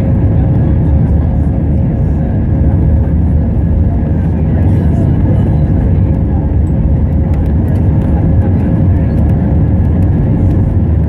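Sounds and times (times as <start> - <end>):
jet engine drone: 0.0 - 11.0.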